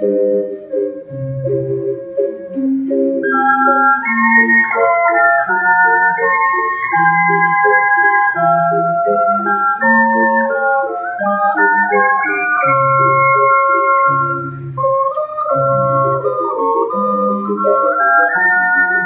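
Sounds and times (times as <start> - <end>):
ocarina ensemble playing: 0.0 - 19.0.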